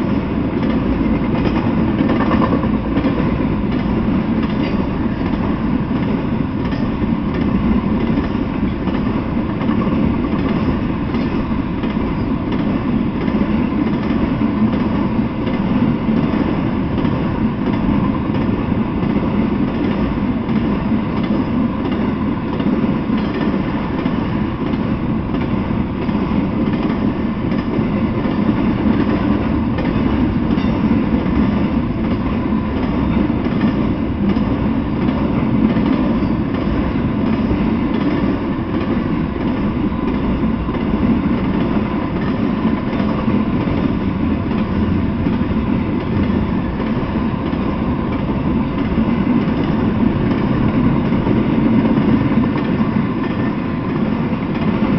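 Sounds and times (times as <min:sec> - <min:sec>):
freight train wheels rumbling: 0:00.0 - 0:54.9.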